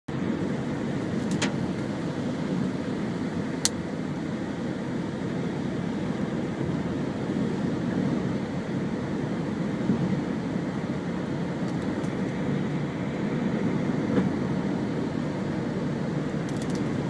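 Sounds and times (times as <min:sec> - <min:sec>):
car interior rumble: 0:00.1 - 0:17.0.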